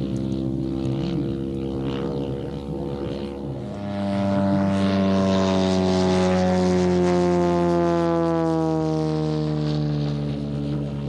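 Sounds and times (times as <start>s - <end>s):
model airplane petrol engine: 0.0s - 11.0s.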